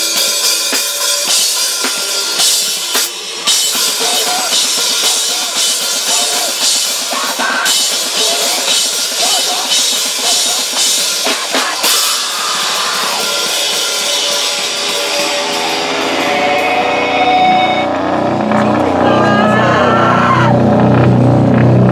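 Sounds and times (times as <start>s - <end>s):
drums and cymbals: 0.0s - 17.9s
live rock band playing: 0.0s - 21.9s.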